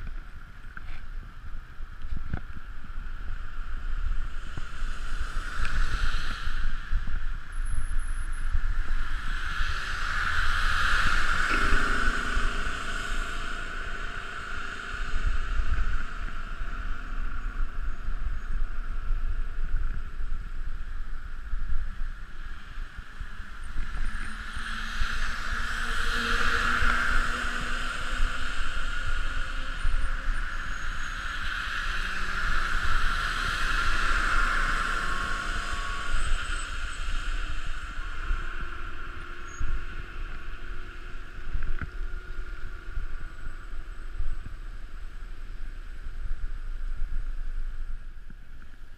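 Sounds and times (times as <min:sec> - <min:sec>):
bicycle road noise rumble: 0:00.0 - 0:48.9
wind rushing over microphone: 0:00.0 - 0:48.9.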